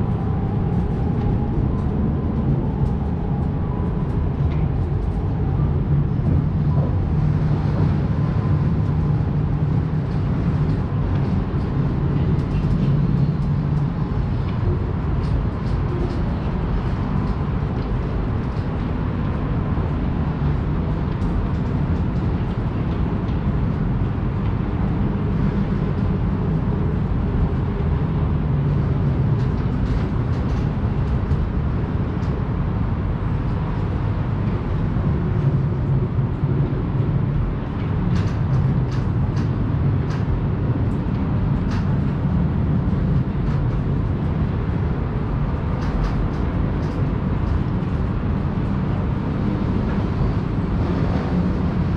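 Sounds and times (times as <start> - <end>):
low rumble: 0.0 - 51.9.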